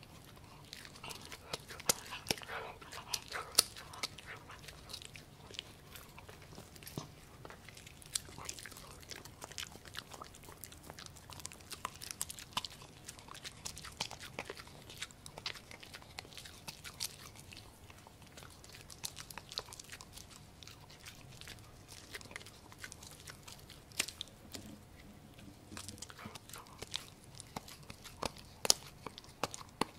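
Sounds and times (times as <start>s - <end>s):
puppy chewing and crunching: 0.0s - 29.9s.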